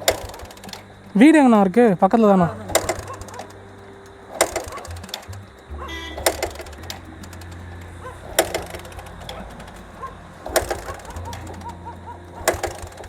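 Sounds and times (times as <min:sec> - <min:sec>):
low steady hum: 0:00.0 - 0:13.0
sharp clacks: 0:02.5 - 0:13.0.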